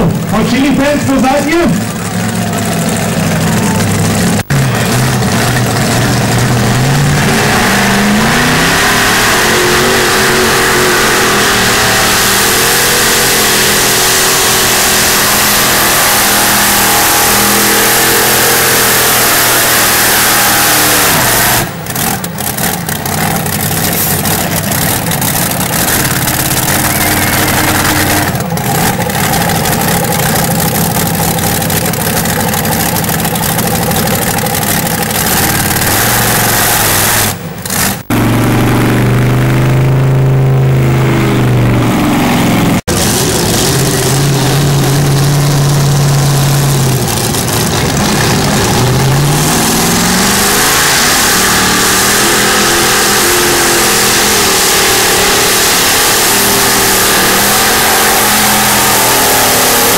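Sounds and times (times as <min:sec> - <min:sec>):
tractor engine revving: 0:00.0 - 0:59.9.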